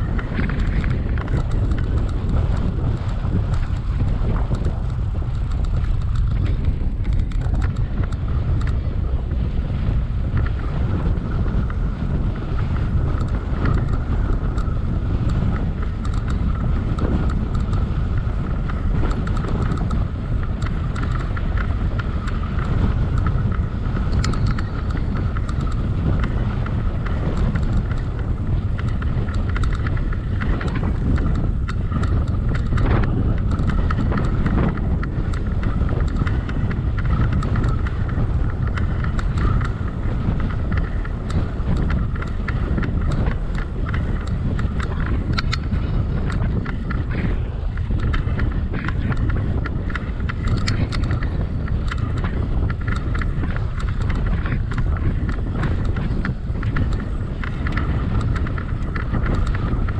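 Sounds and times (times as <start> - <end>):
bicycle clicks and rattles: 0.0 - 59.9
faint bicycle hum: 0.0 - 59.9
wind buffeting microphone: 0.0 - 59.9.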